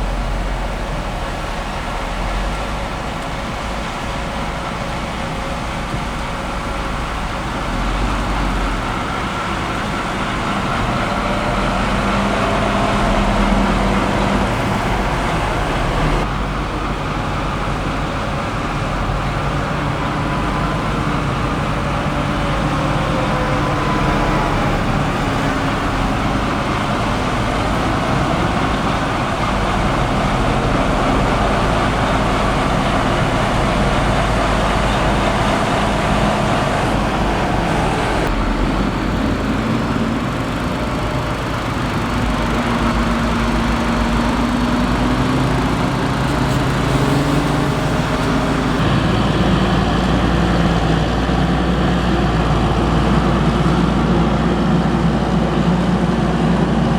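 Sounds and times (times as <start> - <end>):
diesel machinery running: 0.0 - 56.9.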